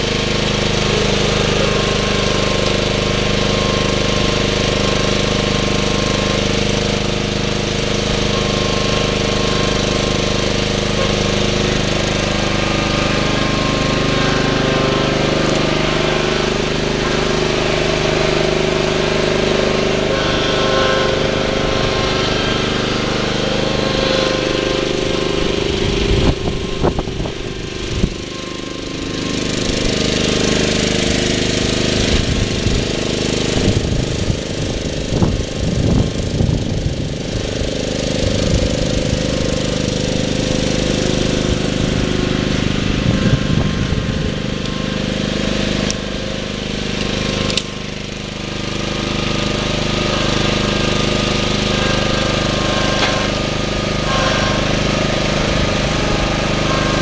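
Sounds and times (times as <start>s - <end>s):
small engine running under load: 0.0s - 57.0s.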